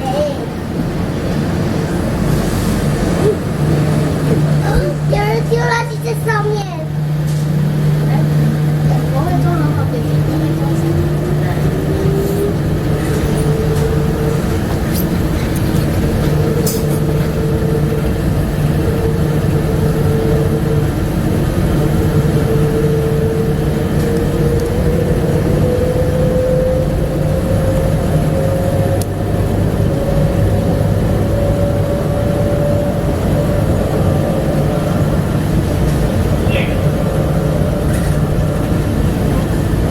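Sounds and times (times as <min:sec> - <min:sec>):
people-mover car rumble: 0:00.0 - 0:39.9.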